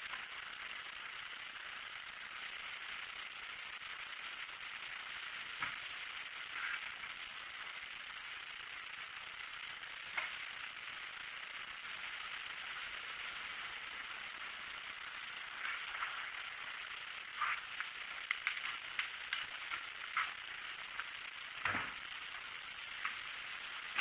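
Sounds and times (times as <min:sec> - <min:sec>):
grinding wheel hissing and crackling: 0:00.0 - 0:24.0.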